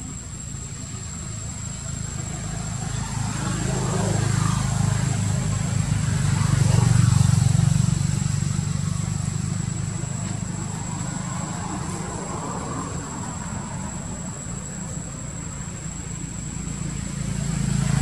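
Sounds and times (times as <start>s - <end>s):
motor passing by: 0.7s - 18.0s.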